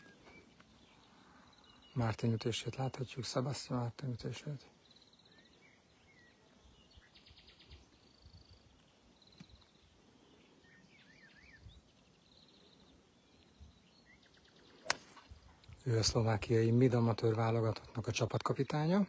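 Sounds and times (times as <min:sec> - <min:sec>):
songbirds trilling and chirping: 0:00.0 - 0:19.0.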